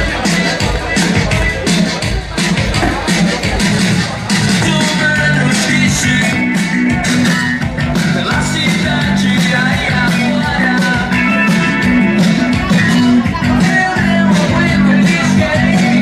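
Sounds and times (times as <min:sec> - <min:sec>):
loud rock music with singing: 0:00.0 - 0:16.0.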